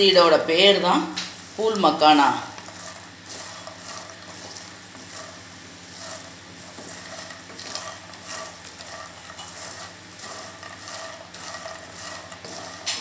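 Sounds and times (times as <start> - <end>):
seeds sizzling in oil: 0.0 - 13.0
wooden spatula scraping pan: 1.6 - 13.0.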